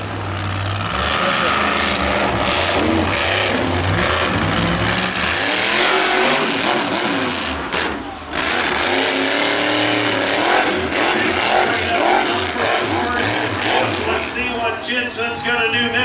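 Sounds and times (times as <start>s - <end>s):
truck engine revving: 0.0s - 15.4s.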